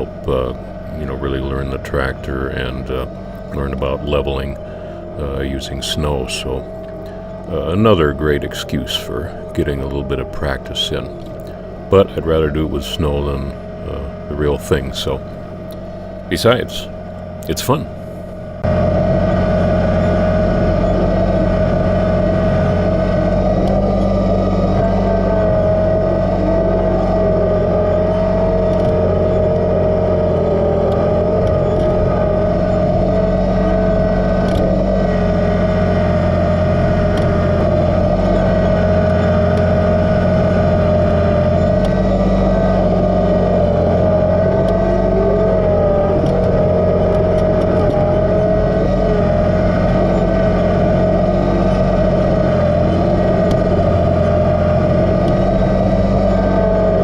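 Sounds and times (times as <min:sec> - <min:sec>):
high wavering whine: 0:00.0 - 0:57.0
tractor diesel engine running: 0:00.0 - 0:57.0.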